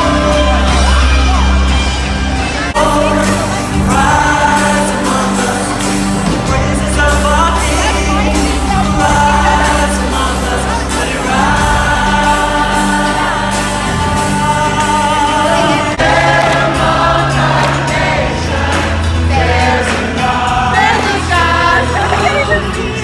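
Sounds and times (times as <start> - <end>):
live band and singers: 0.0 - 23.0.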